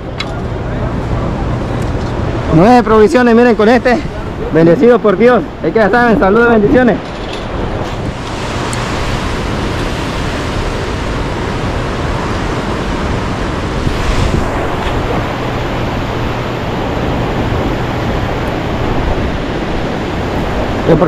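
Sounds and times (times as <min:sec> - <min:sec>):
water rushing: 0:00.0 - 0:21.0
wind on microphone: 0:00.0 - 0:21.0.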